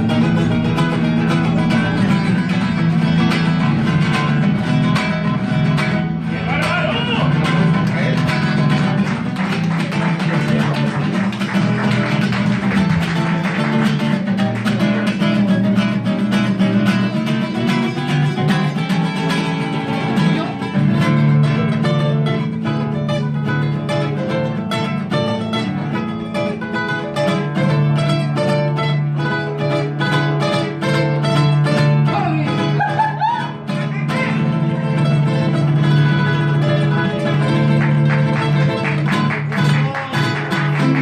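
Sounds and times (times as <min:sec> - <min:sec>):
mariachi music: 0:00.0 - 0:41.0
strummed and plucked guitars: 0:00.0 - 0:41.0.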